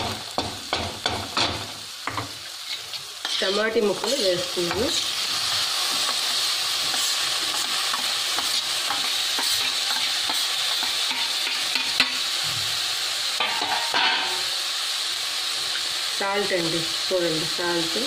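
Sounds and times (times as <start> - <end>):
tomatoes sizzling in hot oil: 0.0 - 18.0.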